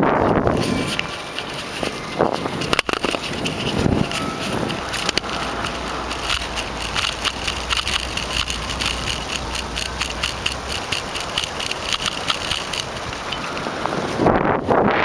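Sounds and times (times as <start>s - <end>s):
bicycle tyre and air noise: 0.0s - 15.0s
wind buffeting microphone: 0.0s - 15.0s
quick rattling clicks: 0.8s - 13.5s.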